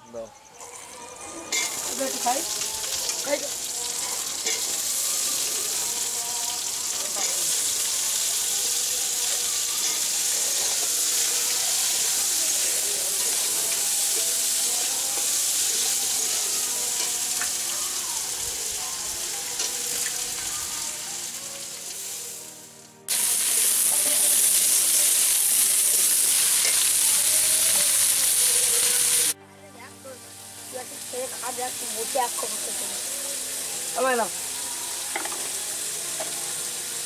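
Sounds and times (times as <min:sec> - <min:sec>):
food sizzling in hot oil: 0:00.6 - 0:29.4, 0:30.4 - 0:37.0.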